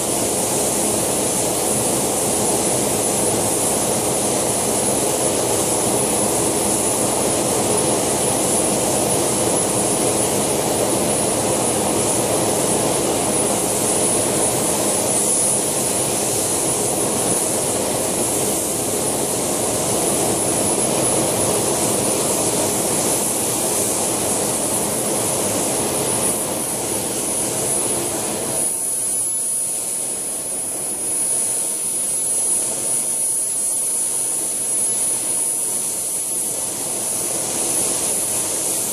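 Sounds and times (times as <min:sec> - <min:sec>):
model helicopter turbine whine: 0:00.0 - 0:38.9.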